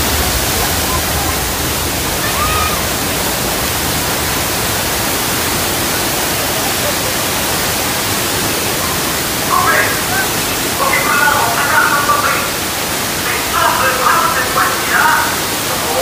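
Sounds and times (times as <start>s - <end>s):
water rushing and cascading: 0.0s - 16.0s.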